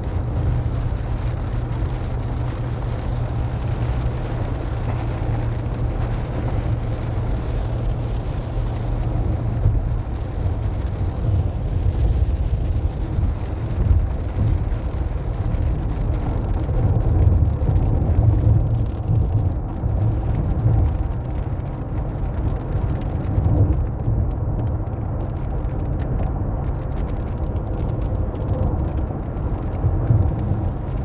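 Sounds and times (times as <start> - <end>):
car driving rumble inside cabin: 0.0 - 31.0
light rain on car: 0.0 - 31.0.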